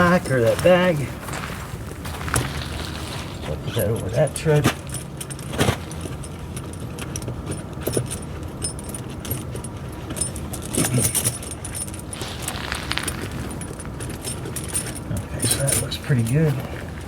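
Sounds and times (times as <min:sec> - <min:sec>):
tire chain clinking: 0:00.0 - 0:17.0.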